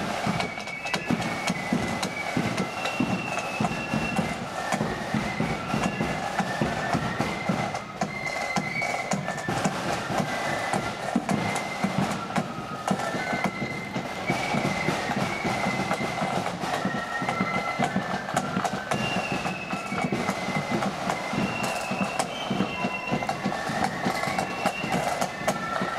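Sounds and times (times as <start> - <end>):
flute melody: 0.0 - 25.9
rapid side-drumming: 0.0 - 25.9.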